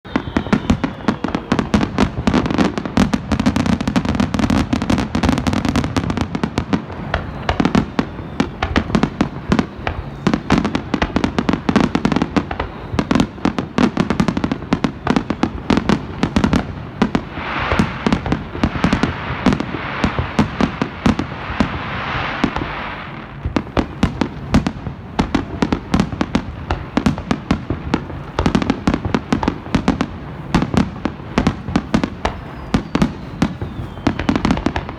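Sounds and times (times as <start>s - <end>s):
fireworks bangs: 0.0s - 34.9s
fireworks crackling hiss: 0.0s - 34.9s.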